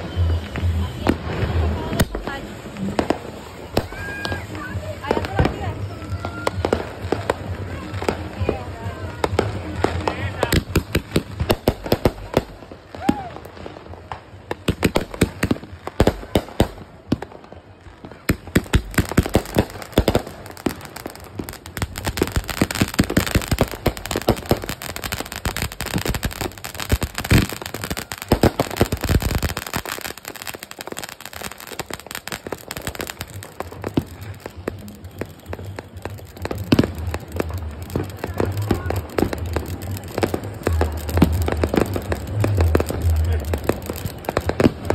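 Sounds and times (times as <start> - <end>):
firework fountain crackling: 0.0 - 44.9.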